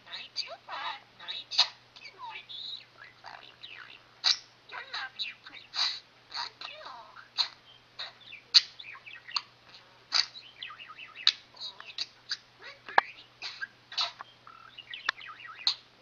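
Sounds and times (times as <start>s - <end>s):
budgerigar warbling and chattering: 0.1s - 16.0s.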